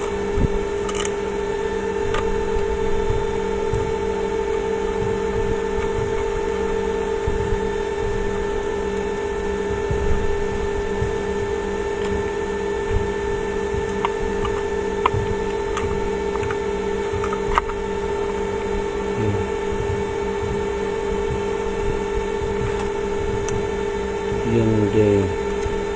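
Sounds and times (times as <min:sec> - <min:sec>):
steady electrical hum: 0:00.0 - 0:25.9.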